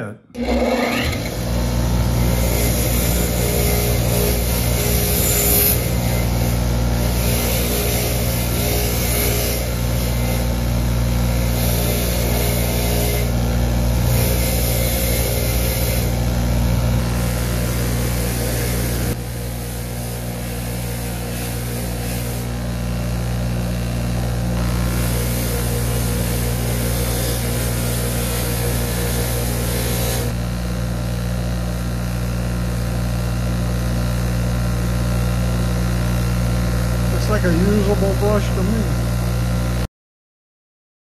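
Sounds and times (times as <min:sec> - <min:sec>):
bench grinder motor hum: 0:00.3 - 0:39.9.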